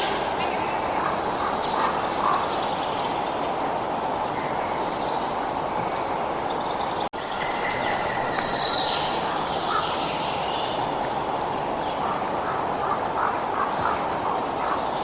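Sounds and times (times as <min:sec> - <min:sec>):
birds chirping: 0:00.0 - 0:05.5, 0:06.1 - 0:15.0.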